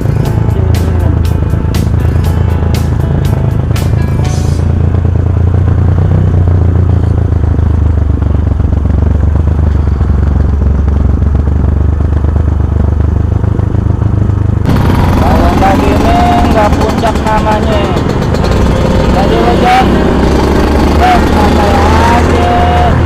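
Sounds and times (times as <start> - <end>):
motorcycle engine rumble: 0.0 - 23.0.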